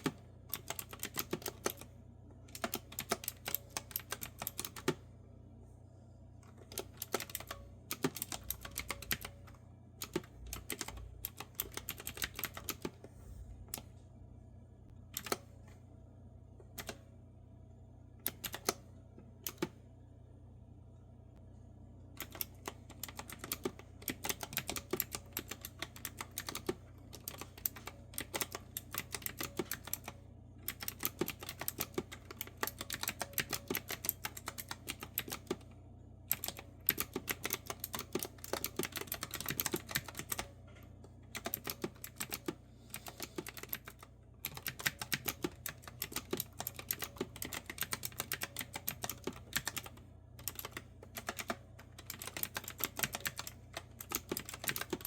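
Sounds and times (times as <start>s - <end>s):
clicky keyboard typing: 0.0s - 1.9s, 2.5s - 5.0s, 6.5s - 13.0s, 15.2s - 15.4s, 16.7s - 17.0s, 18.2s - 18.8s, 19.4s - 19.8s, 22.2s - 35.7s, 36.3s - 55.0s
faint low hum: 0.0s - 55.0s.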